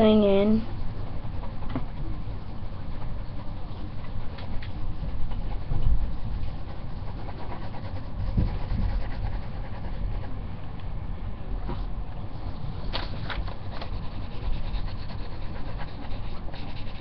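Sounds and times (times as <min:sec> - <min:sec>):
pencil scratching on paper: 0:00.0 - 0:10.3, 0:12.8 - 0:17.0.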